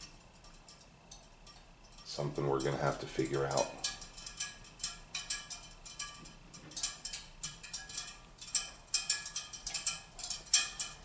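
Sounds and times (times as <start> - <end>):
heating register ticking and pinging: 0.0 - 11.0.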